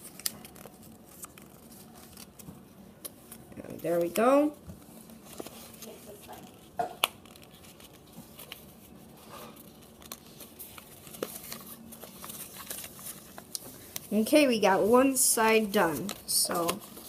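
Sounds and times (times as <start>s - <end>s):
paper being folded and creased: 0.0s - 17.0s.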